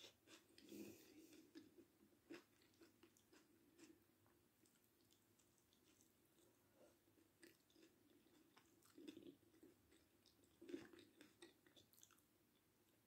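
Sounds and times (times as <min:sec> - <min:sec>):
chewing fried fish: 0:00.0 - 0:13.0.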